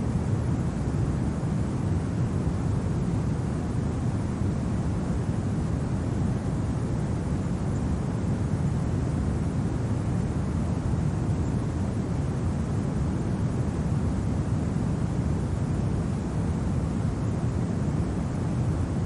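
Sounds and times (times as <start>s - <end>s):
low wind rumbling: 0.0s - 19.0s.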